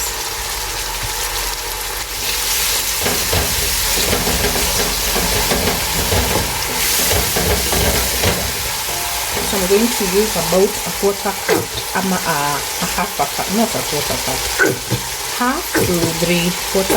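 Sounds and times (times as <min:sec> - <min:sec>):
onions sizzling in hot oil: 0:00.0 - 0:16.9.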